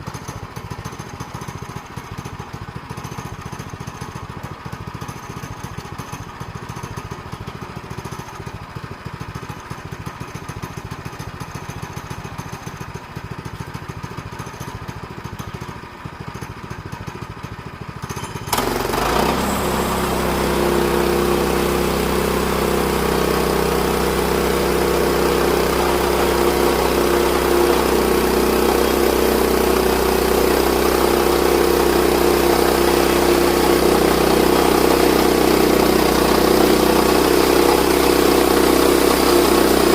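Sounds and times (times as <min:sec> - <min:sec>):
small gasoline engine revving: 0:00.0 - 0:39.9.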